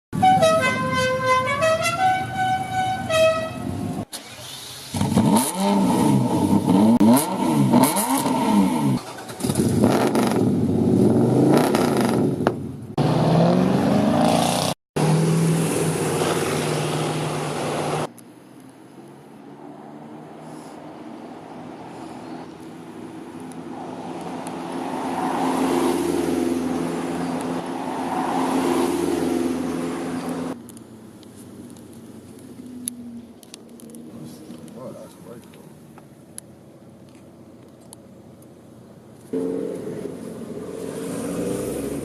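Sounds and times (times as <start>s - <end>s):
car engines revving: 0.4s - 42.0s.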